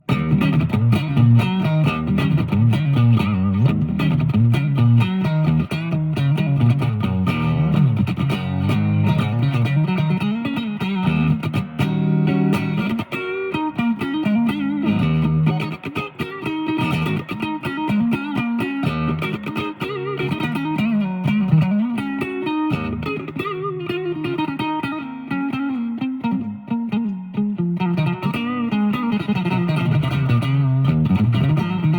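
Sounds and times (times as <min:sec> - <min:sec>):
electric guitar picked notes: 0:00.0 - 0:31.9.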